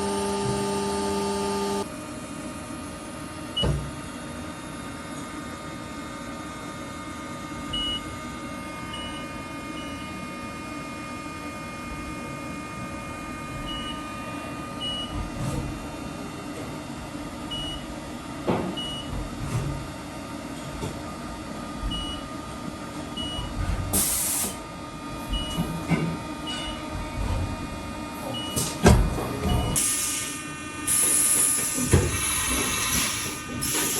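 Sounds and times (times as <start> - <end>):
machine mechanical hum: 0.0 - 33.9.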